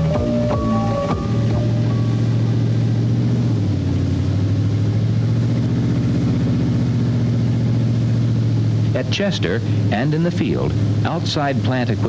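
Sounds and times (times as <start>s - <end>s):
crane engine humming: 0.0s - 12.0s.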